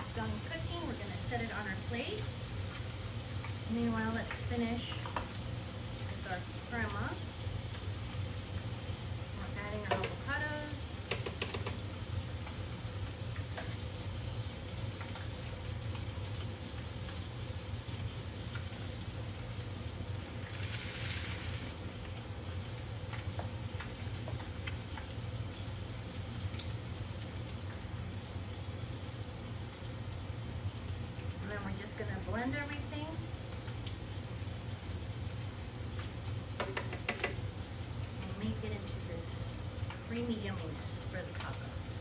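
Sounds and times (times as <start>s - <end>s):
fish frying in oil: 0.0s - 42.0s.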